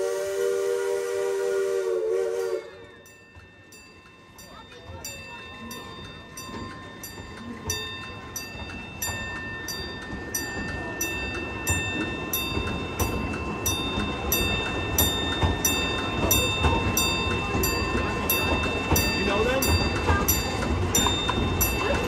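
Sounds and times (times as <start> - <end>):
railroad crossing bell ringing: 0.0 - 22.0
train coaches rumbling past: 0.0 - 22.0.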